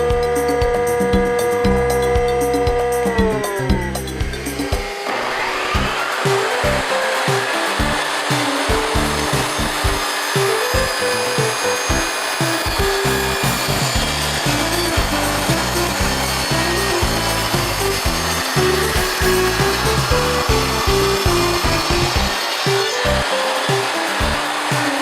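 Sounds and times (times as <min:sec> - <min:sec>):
background music with bass line: 0:00.0 - 0:05.0, 0:05.8 - 0:10.2, 0:10.8 - 0:22.4, 0:23.1 - 0:23.3, 0:24.1 - 0:25.0
power tool cutting wood: 0:00.0 - 0:25.0.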